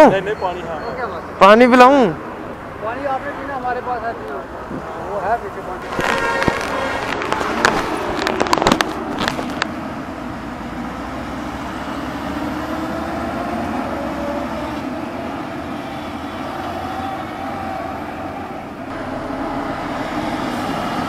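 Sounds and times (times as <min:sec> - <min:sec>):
traffic engines passing: 0:00.0 - 0:21.0.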